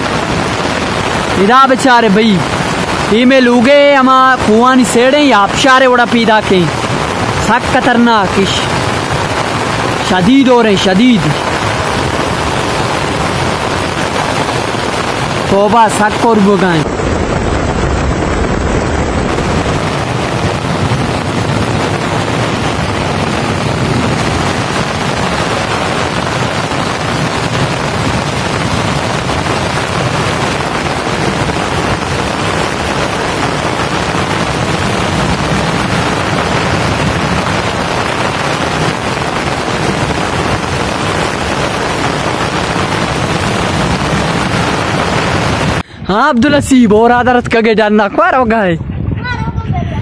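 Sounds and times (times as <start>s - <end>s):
runoff water rushing: 0.0s - 48.3s
heavy rain: 0.0s - 48.4s.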